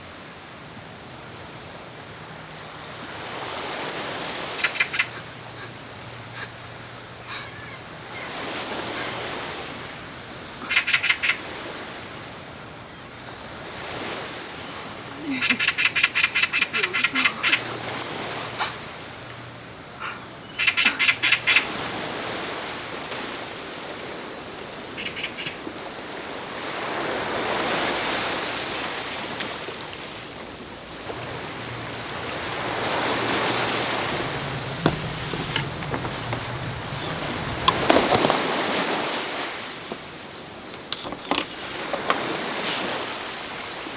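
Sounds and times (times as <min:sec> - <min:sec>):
sea waves washing on shore: 0:07.9 - 0:43.9.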